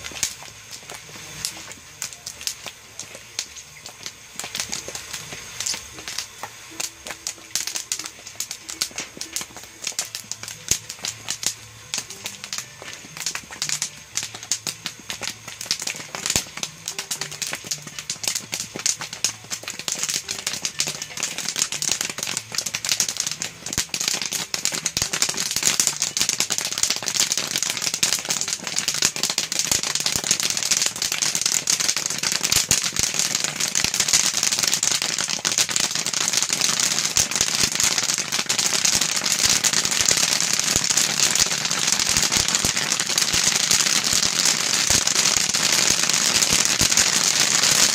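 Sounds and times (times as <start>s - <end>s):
high hiss: 0.0s - 47.9s
popcorn kernels popping: 0.0s - 47.9s.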